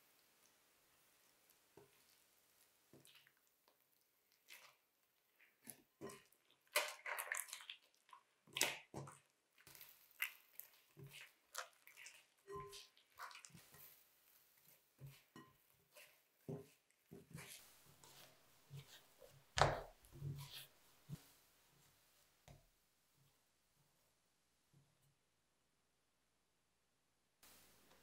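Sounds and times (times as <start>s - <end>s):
dough squishing while kneaded: 0.0s - 25.2s.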